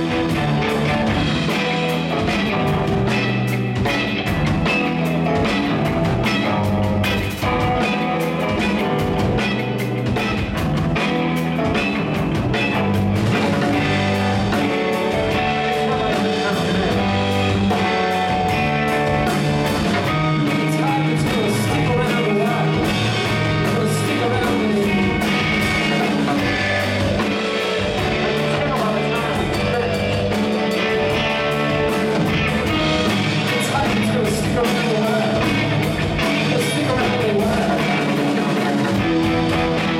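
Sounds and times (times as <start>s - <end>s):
bass: 0.0s - 39.9s
distorted electric guitars: 0.0s - 39.9s
drum kit: 0.0s - 39.9s.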